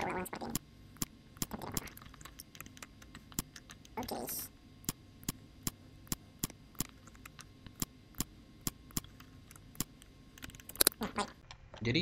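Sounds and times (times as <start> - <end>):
computer mouse clicking: 0.5 - 4.2, 4.8 - 11.8.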